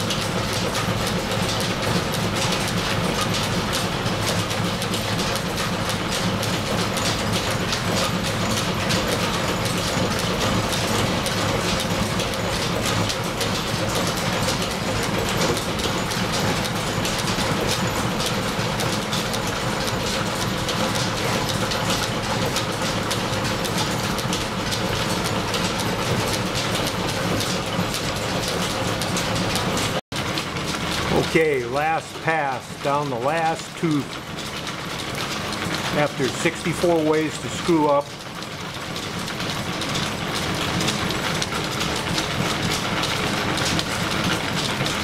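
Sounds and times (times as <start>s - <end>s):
milling machine clatter: 0.0s - 45.0s.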